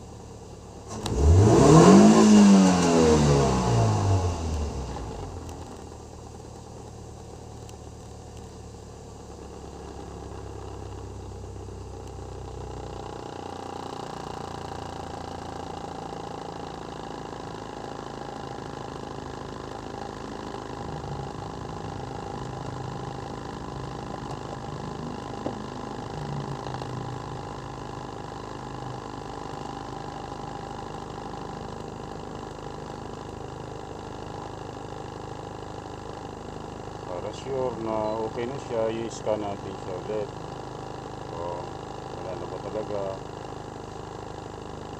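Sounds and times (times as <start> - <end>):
car engine idling after a rev: 0.0 - 44.9.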